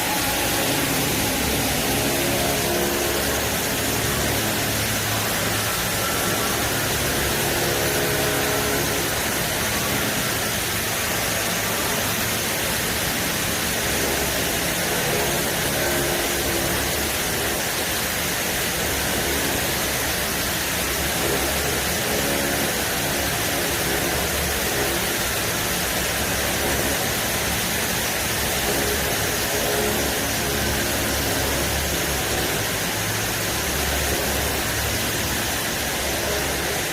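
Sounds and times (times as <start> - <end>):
boring mill hum and hiss: 0.0 - 36.9.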